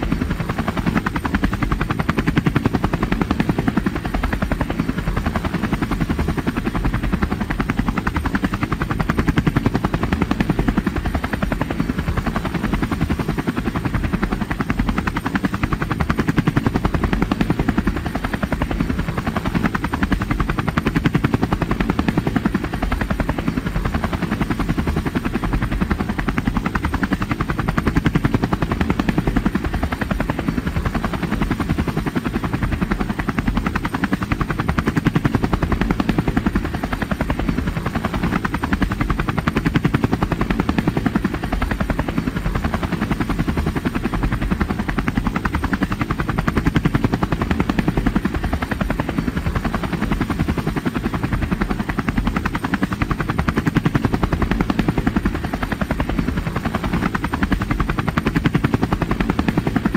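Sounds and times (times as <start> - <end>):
helicopter rotor chopping: 0.0 - 59.9.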